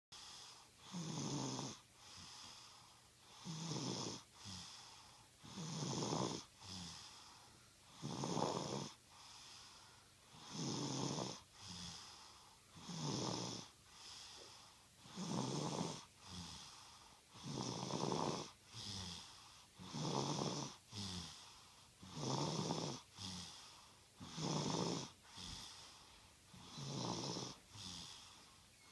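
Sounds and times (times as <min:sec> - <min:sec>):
boy snoring: 0:00.2 - 0:28.9.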